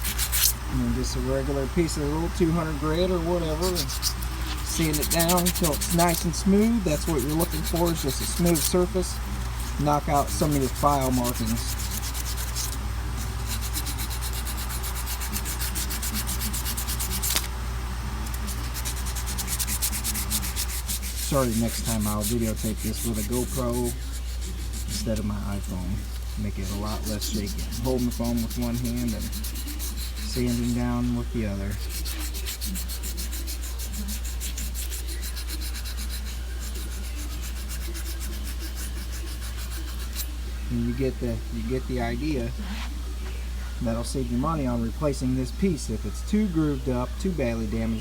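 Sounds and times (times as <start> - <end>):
sandpaper rubbing on metal: 0.0 - 0.6, 1.8 - 17.5, 18.2 - 40.4
steady low hum: 0.0 - 48.0.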